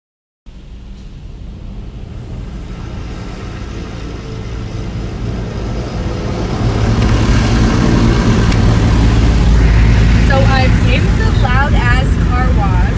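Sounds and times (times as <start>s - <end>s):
automatic car wash running: 0.5s - 12.9s.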